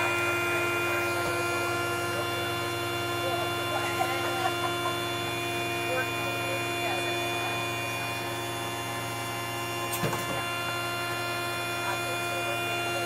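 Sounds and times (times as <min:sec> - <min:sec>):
turboprop engine idling hum: 0:00.0 - 0:13.0.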